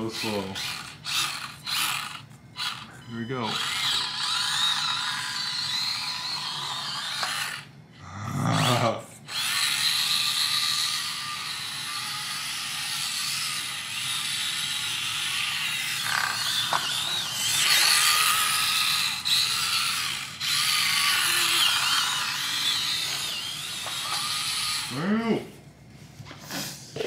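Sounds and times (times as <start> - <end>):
electric motor whining: 0.0 - 7.7, 8.6 - 25.2.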